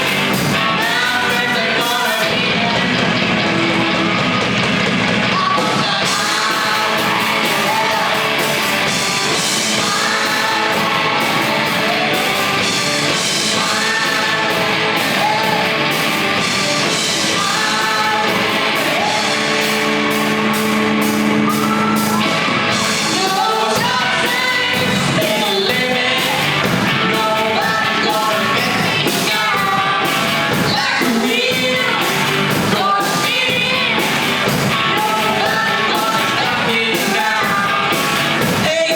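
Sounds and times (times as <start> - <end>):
lead singer singing: 0.0 - 3.3, 5.2 - 20.2, 21.5 - 38.9
drums steady beat: 0.0 - 38.9
live band playing: 0.0 - 38.9.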